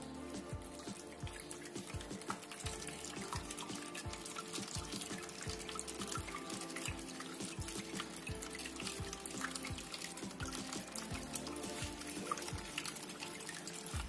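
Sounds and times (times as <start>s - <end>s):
fountain water trickling: 0.0s - 14.0s
music of sustained tones: 0.0s - 14.0s.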